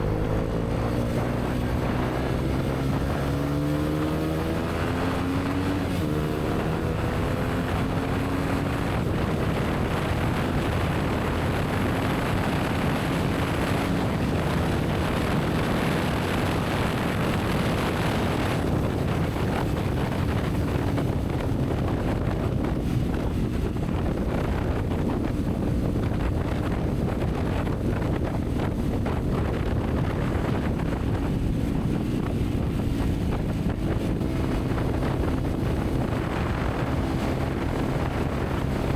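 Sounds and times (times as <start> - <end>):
motorcycle engine accelerating: 0.0 - 38.9
wind rush on microphone: 0.0 - 38.9.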